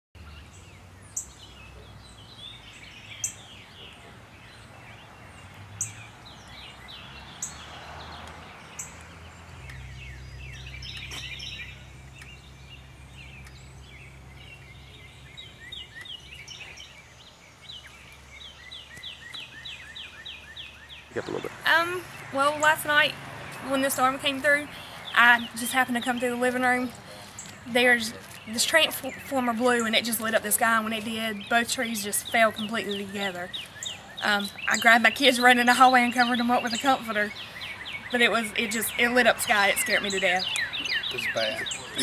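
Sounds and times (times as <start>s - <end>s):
birds chirping: 0.2s - 42.0s.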